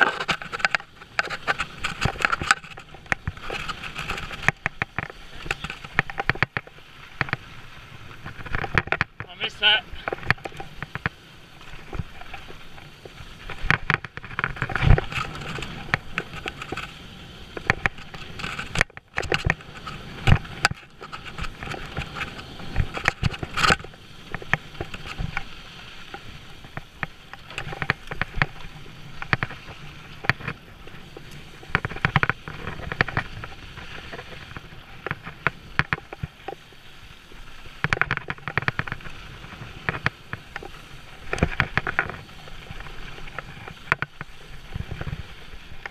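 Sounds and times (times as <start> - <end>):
bike knocking and clattering: 0.0 - 7.5, 8.1 - 16.9, 17.6 - 36.7, 37.6 - 45.9.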